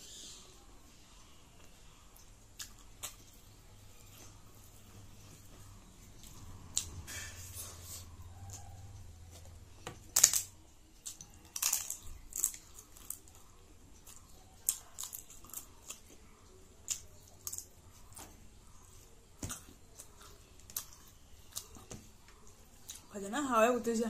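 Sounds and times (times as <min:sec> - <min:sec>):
person chewing crunchy food: 0:01.6 - 0:23.1.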